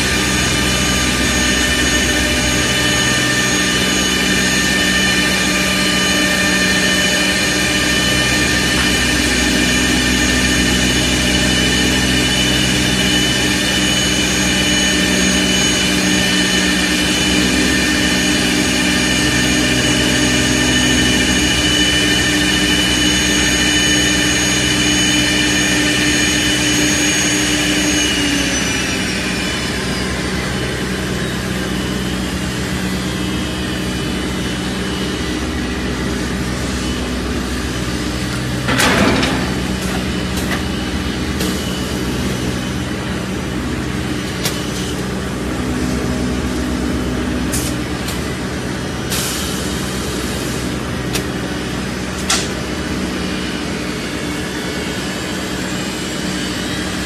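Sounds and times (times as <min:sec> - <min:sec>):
lathe spindles whining: 0:00.0 - 0:57.0
wood cutting noise: 0:00.0 - 0:57.0.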